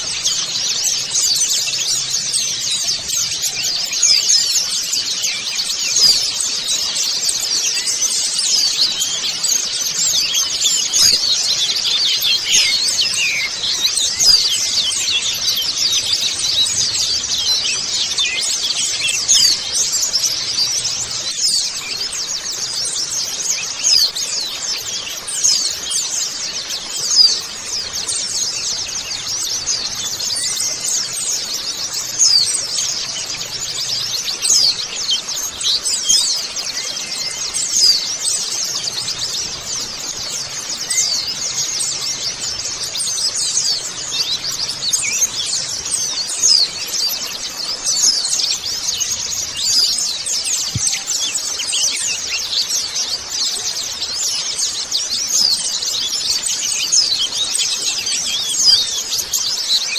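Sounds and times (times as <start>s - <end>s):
birds twittering: 0.0s - 59.9s.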